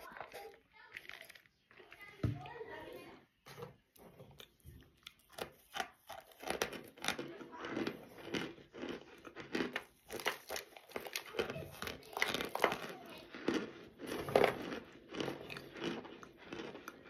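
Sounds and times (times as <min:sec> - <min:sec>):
cornstarch crunching being chewed: 0:00.0 - 0:02.6, 0:03.9 - 0:17.0.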